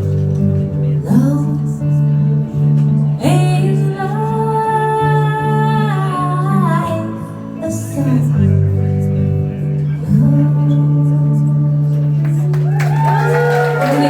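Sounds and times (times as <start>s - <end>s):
person singing: 0.0s - 12.5s
plucked acoustic guitar: 0.0s - 12.6s.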